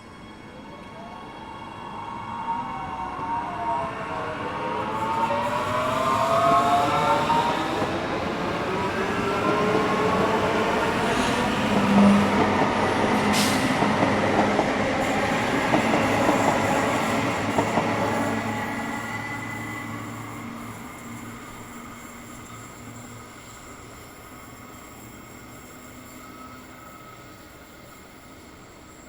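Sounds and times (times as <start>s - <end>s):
train wheels on rails: 4.9s - 29.0s.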